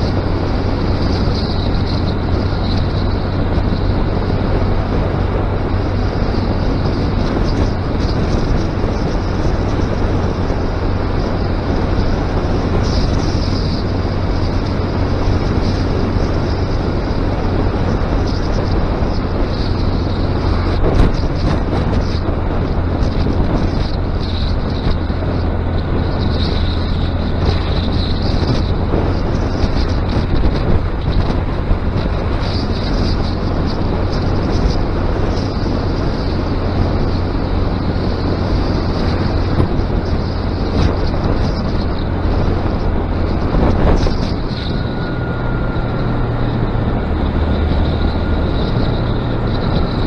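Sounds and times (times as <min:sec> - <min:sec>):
motorcycle engine running: 0:00.0 - 0:50.0
wind noise on microphone: 0:00.0 - 0:50.0.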